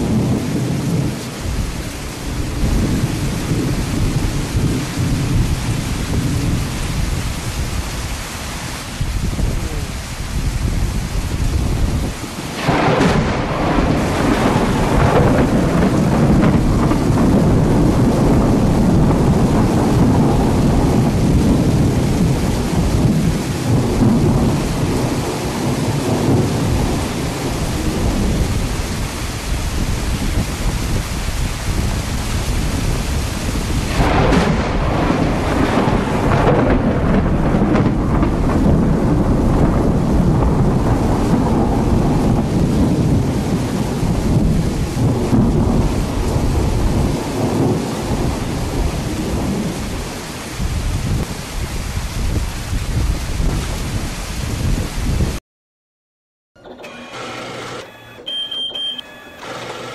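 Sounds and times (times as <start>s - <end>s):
steady rain: 0.0s - 55.4s
thunder rolling: 0.0s - 55.4s.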